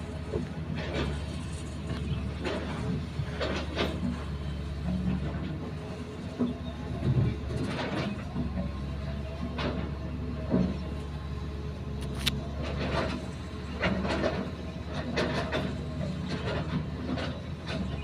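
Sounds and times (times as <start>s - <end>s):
excavator diesel engine droning: 0.0s - 18.0s
excavator bucket clanking and scraping: 0.1s - 11.1s, 11.9s - 18.0s.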